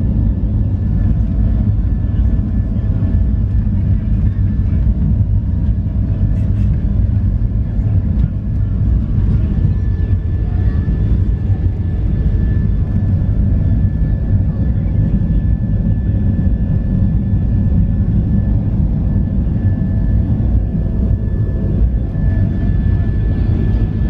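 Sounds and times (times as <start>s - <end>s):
plane engines low rumble: 0.0s - 24.0s.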